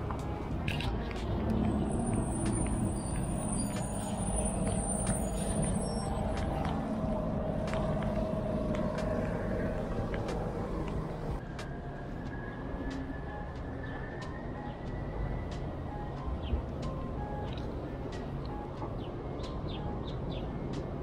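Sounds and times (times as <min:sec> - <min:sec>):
cars and trucks driving past: 0:00.0 - 0:21.0
vehicle humming: 0:00.0 - 0:21.0.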